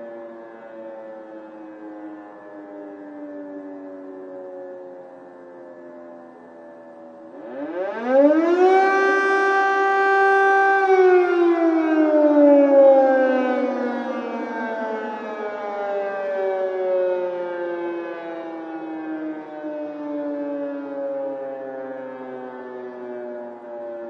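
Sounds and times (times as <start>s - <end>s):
air raid siren wailing: 0.0s - 24.0s.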